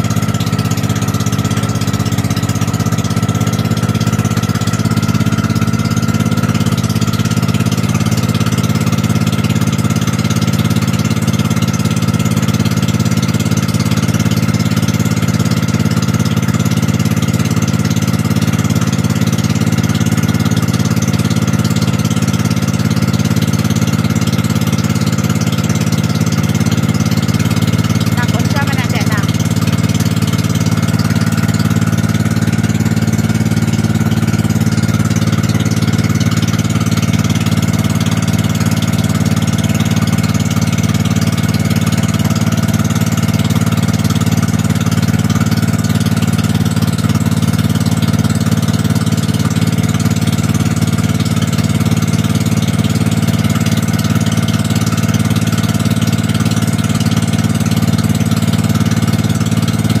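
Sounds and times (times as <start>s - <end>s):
boat engine droning: 0.0s - 60.0s.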